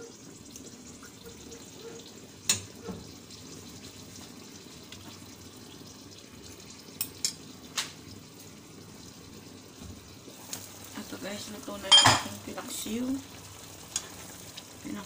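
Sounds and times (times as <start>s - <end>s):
sauce sizzling and bubbling: 0.0s - 15.0s.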